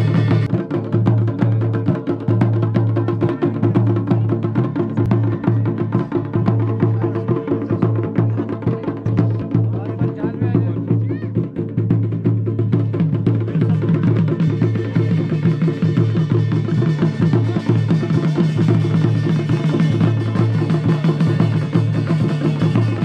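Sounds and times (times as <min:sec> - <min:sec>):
drums in fast steady rhythm: 0:00.0 - 0:23.0.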